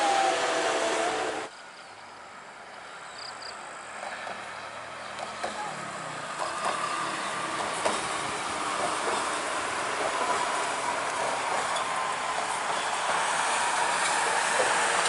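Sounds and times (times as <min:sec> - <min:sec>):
coach engine and tyre noise: 0:00.0 - 0:15.0.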